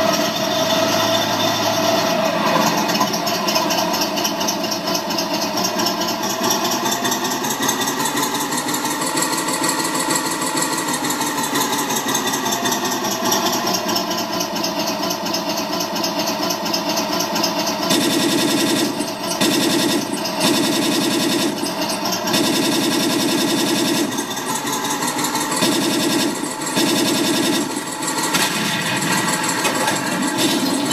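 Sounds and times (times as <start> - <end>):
simulated tank engine from speaker: 0.0 - 30.9.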